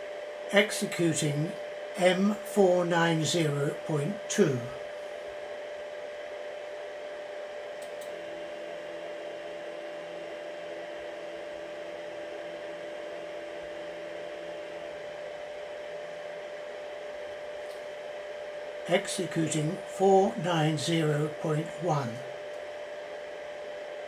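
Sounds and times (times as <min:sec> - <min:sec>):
machine whirring and humming: 0:00.0 - 0:24.0.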